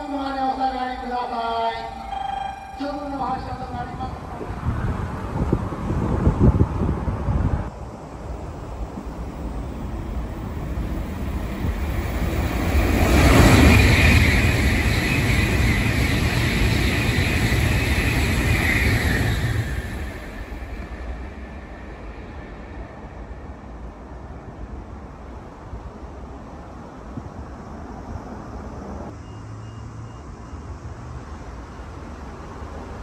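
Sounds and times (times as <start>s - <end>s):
high-speed train passing: 0.0s - 29.2s, 30.5s - 33.0s.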